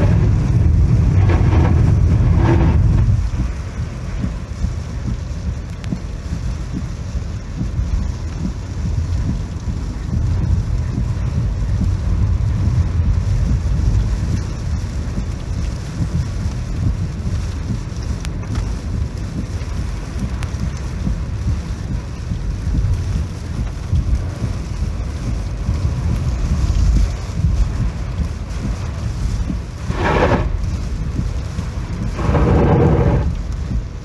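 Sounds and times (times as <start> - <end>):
rain hiss: 0.0 - 34.0
wind gusts buffeting microphone: 0.0 - 34.0.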